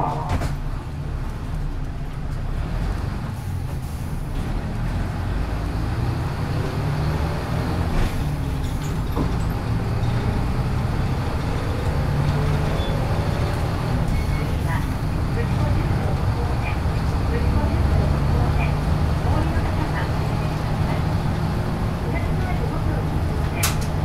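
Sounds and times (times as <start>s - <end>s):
diesel bus engine drone: 0.0s - 24.0s
road noise: 0.0s - 24.0s.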